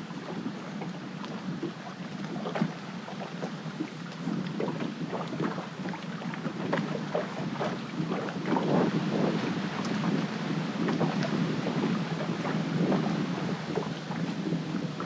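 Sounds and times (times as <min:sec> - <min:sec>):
water slapping against boat hull: 0:00.0 - 0:15.0
wind noise on microphone: 0:00.0 - 0:15.0.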